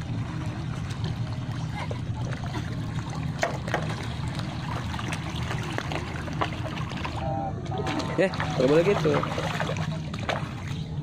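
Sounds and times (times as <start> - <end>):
floodwater trickling and splashing: 0.0 - 11.0
steady low rumble: 0.0 - 11.0.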